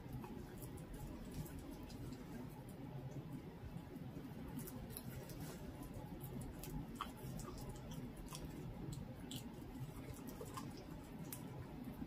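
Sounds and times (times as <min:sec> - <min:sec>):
dog chewing wet clicks: 0:00.0 - 0:03.3, 0:04.5 - 0:12.0
low steady hum: 0:00.0 - 0:12.0.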